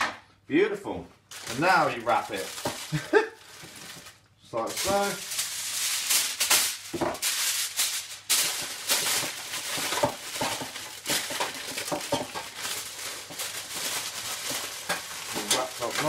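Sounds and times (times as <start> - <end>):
aluminium foil crinkling: 1.3 - 16.0.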